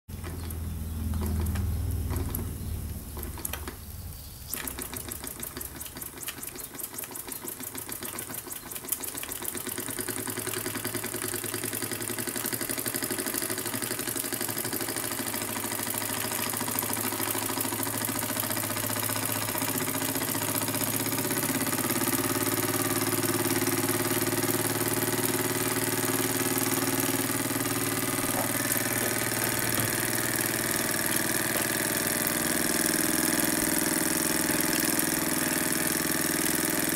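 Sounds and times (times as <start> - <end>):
miniature steam engine running: 4.5 - 36.9.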